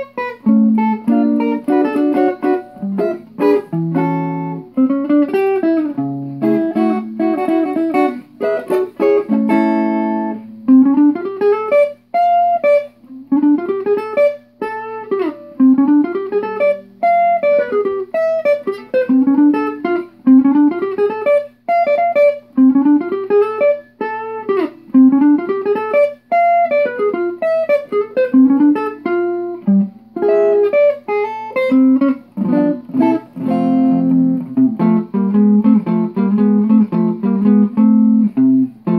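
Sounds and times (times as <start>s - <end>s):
jazz guitar playing: 0.0s - 38.9s.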